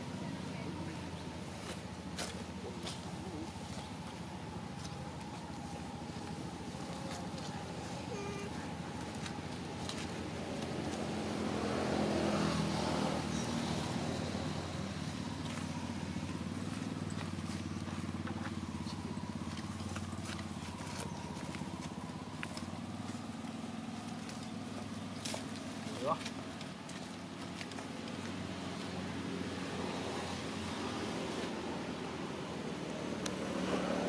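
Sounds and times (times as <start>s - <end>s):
vehicle engine passing: 0.0s - 34.0s.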